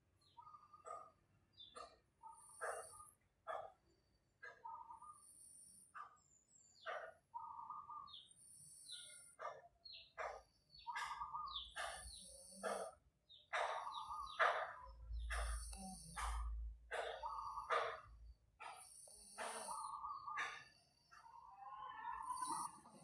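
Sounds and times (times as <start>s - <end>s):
birds chirping: 0.1s - 23.0s.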